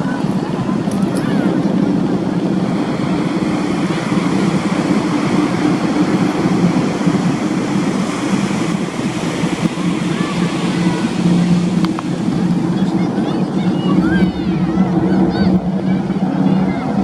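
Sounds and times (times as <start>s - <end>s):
aircraft engine drone: 0.0s - 17.0s
wind-like rushing noise: 0.0s - 17.0s.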